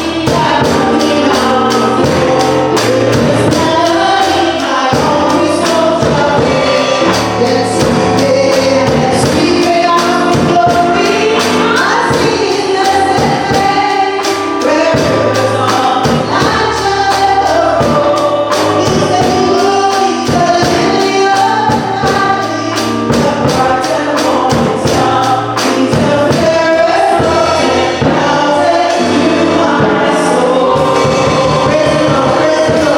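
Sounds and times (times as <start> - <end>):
gospel choir singing: 0.0 - 32.9
instrumental backing with beat: 0.0 - 32.9.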